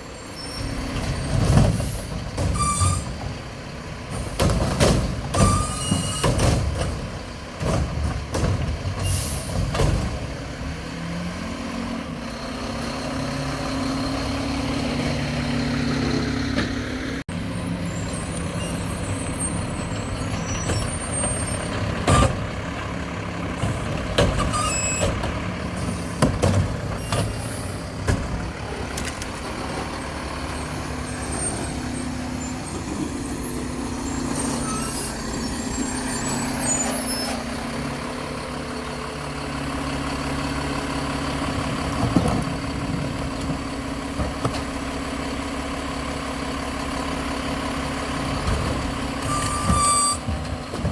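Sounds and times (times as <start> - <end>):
garbage truck engine revving: 0.6 - 50.9.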